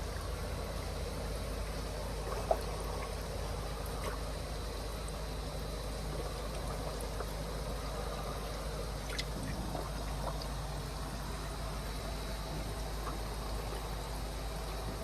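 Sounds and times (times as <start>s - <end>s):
water trickling and bubbling: 0.0s - 15.0s.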